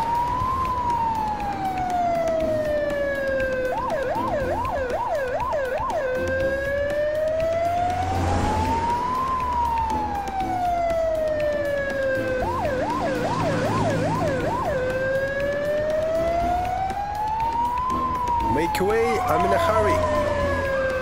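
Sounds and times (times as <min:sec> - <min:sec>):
ambulance siren: 0:00.0 - 0:21.0.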